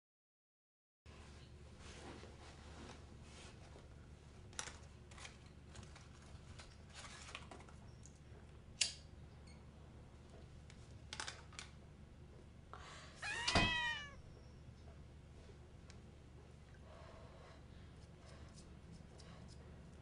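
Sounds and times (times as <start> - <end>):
low room hum: 1.1 - 20.0.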